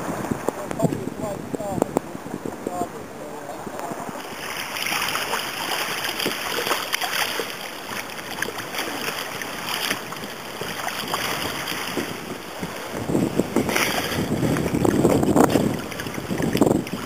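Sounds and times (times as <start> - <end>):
water rushing along hull: 0.0 - 17.0.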